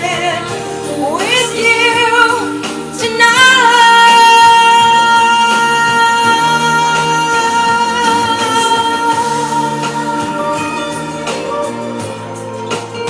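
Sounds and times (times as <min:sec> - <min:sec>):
guitar and band accompaniment: 0:00.0 - 0:13.0.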